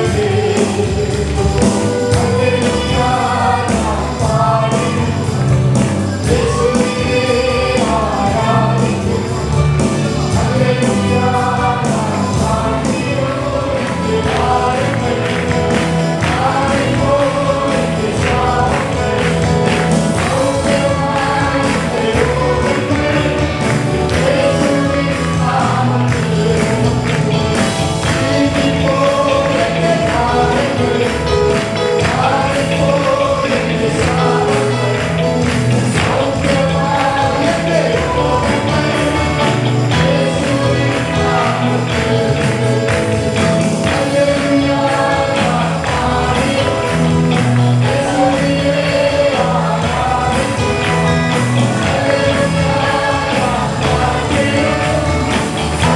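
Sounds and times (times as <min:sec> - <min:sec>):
band playing with bass beat: 0:00.0 - 0:55.9
choir singing gospel song: 0:00.0 - 0:55.9.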